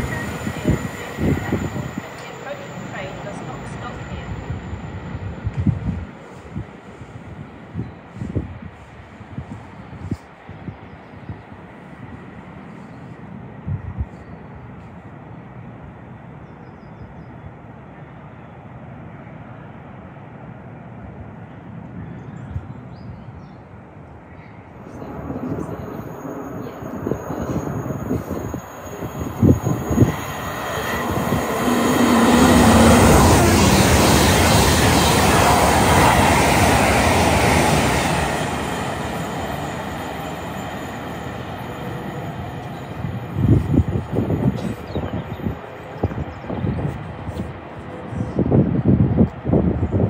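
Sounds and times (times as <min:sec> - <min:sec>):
train passing at speed: 0:00.0 - 0:16.6, 0:17.3 - 0:50.0.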